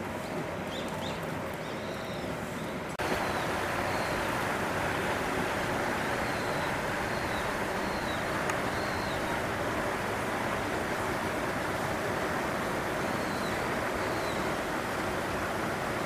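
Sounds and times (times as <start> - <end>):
steady rushing noise: 2.9 - 16.0.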